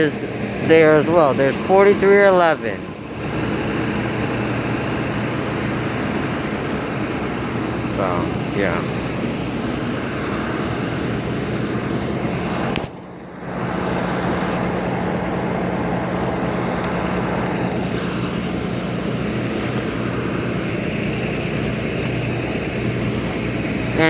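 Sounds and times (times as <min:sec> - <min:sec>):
vehicle engines idling: 0:00.0 - 0:24.0.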